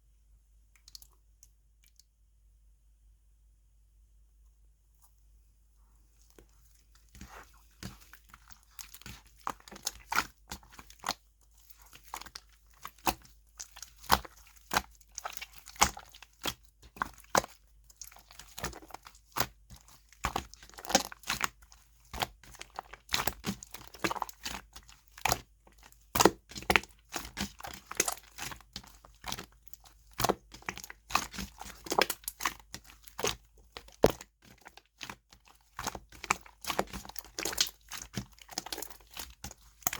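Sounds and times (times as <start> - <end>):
slime crackling and popping: 7.2 - 39.9.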